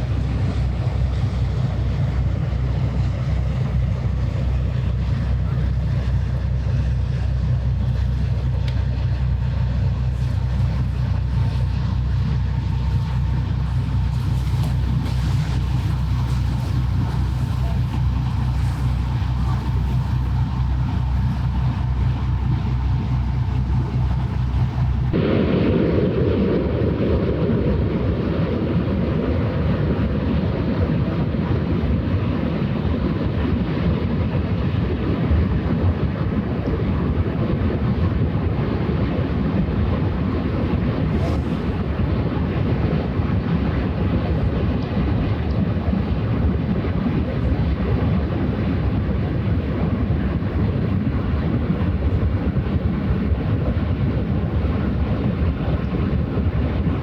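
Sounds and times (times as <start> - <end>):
ship engines droning: 0.0 - 57.0
wind buffeting microphone: 0.0 - 57.0.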